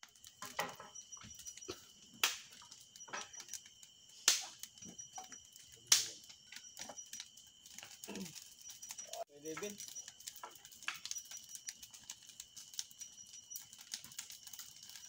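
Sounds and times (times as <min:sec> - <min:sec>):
bonfire crackling: 0:00.0 - 0:15.0
loud pops of fire: 0:00.0 - 0:15.0.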